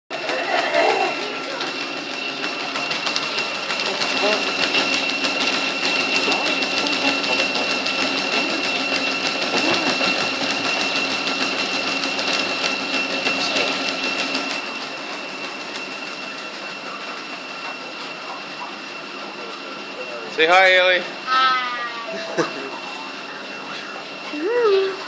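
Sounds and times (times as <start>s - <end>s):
treadmill belt ticking: 0.1s - 25.0s
treadmill motor whine: 0.1s - 25.0s.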